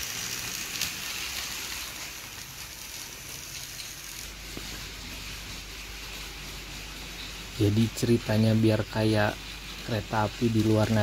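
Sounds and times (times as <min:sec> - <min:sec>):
toy train motors whirring: 0:00.0 - 0:11.0.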